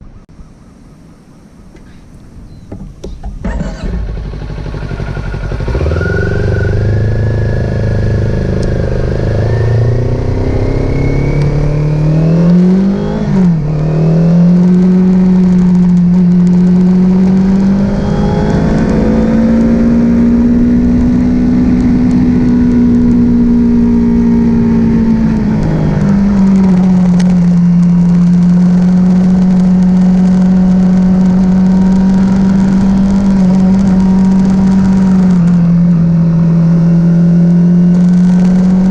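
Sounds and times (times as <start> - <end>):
motorcycle engine revving: 3.0 - 38.9.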